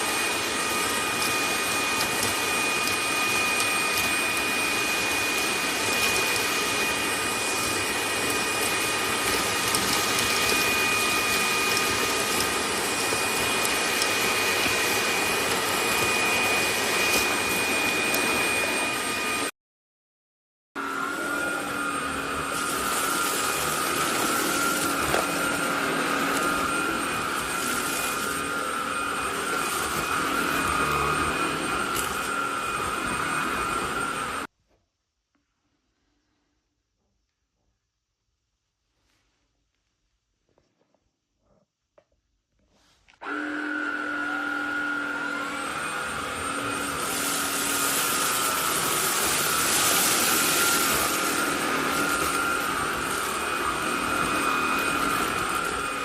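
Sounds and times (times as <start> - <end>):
vacuum cleaner motor whine: 0.0 - 19.5, 20.8 - 34.5, 43.2 - 56.0.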